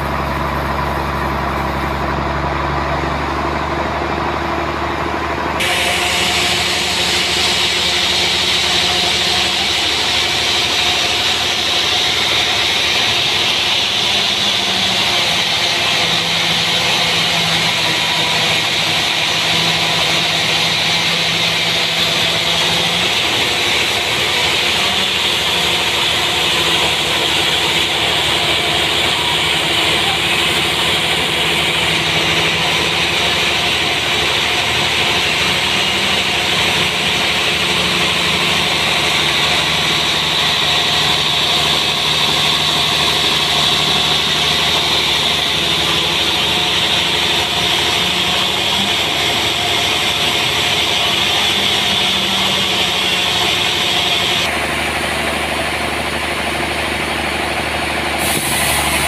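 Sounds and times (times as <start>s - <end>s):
sawmill engine running: 0.0s - 59.0s
saw cutting log hiss: 5.6s - 54.5s, 58.2s - 59.0s.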